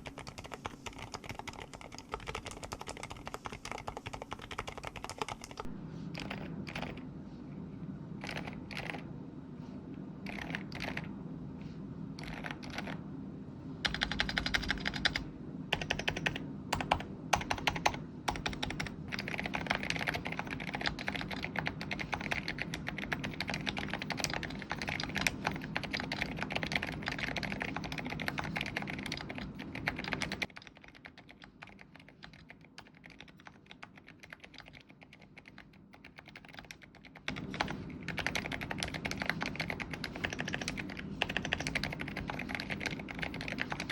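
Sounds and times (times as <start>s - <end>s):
typing on mechanical keyboard: 0.0s - 7.0s, 8.2s - 9.0s, 10.3s - 11.1s, 12.2s - 13.0s, 13.9s - 43.9s.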